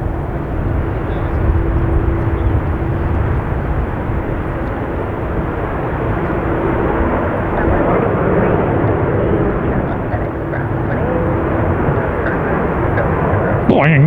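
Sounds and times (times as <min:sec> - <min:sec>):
wind buffeting microphone: 0:00.0 - 0:13.8
faint steady hum: 0:00.0 - 0:14.0
jet engine rumble: 0:00.0 - 0:14.0.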